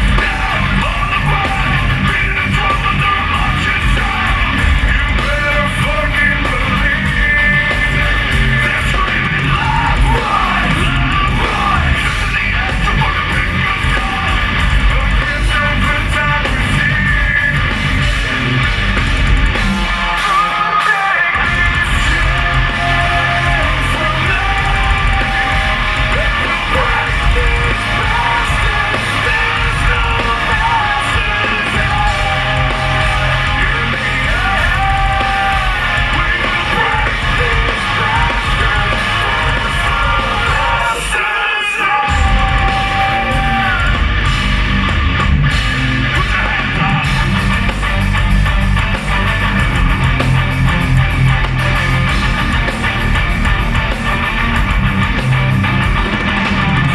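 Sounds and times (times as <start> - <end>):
heavy metal band playing live: 0.0 - 56.9
singer yelling and singing: 0.0 - 56.9.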